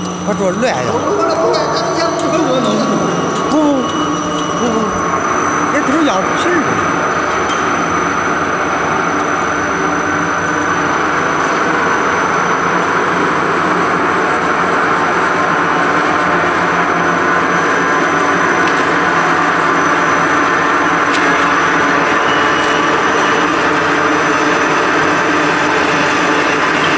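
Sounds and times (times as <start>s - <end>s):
production line machinery running: 0.0s - 26.9s.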